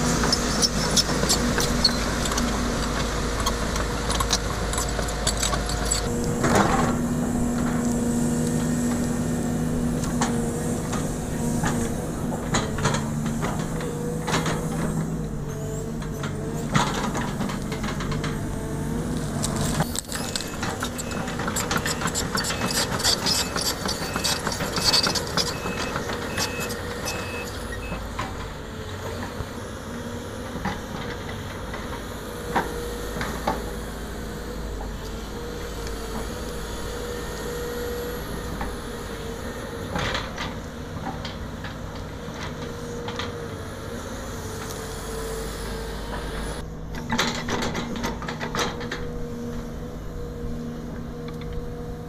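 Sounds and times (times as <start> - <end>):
excavator diesel engine: 0.0 - 52.0.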